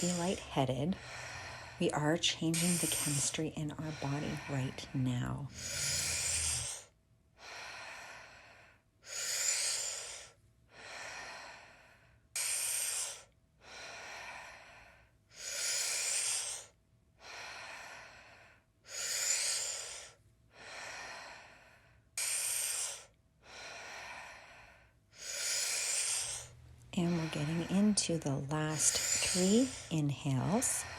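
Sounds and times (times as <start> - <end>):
deep rhythmic breathing: 0.0 - 30.9.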